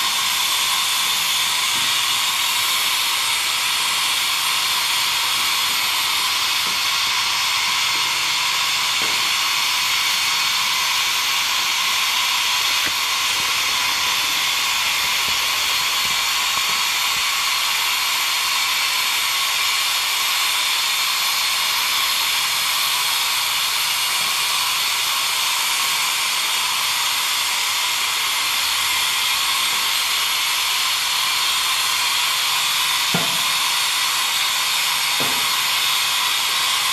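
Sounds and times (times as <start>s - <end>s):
steam hissing from locomotive: 0.0s - 36.9s.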